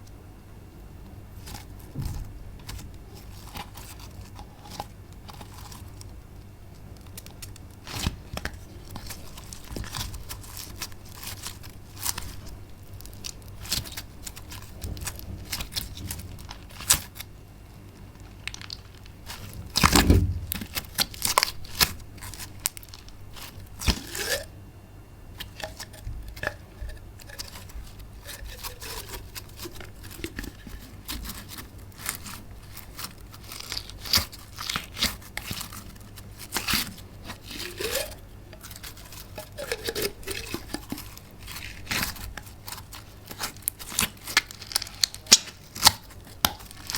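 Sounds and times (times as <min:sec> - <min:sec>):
slime crackling and popping: 0:01.4 - 0:24.5, 0:25.4 - 0:46.9
slime squelch: 0:01.4 - 0:24.6, 0:25.3 - 0:46.9.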